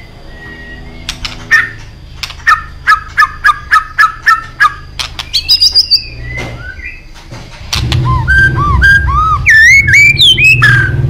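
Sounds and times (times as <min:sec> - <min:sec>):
bird singing: 0:00.0 - 0:07.2, 0:07.8 - 0:11.0.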